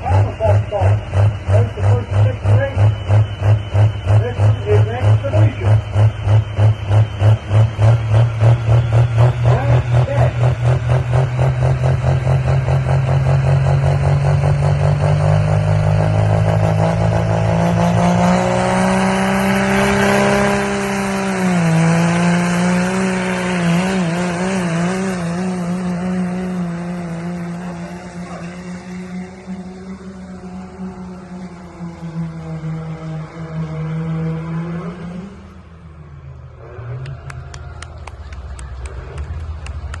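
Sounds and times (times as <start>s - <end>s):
diesel truck engine running hard: 0.0s - 40.0s.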